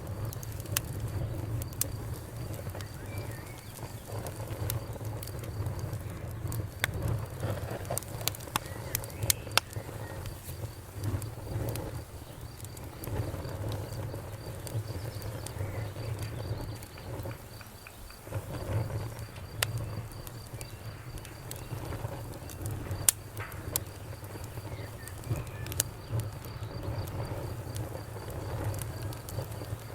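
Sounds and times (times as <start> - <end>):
low rumble of burning: 0.0 - 29.9
sharp pops of fire: 0.0 - 29.9
wood fire crackling: 0.0 - 29.9.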